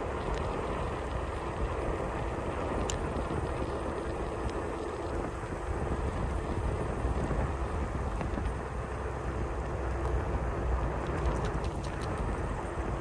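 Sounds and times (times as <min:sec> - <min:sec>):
wheels rolling on asphalt: 0:00.0 - 0:13.0
wind buffeting microphone: 0:00.0 - 0:13.0.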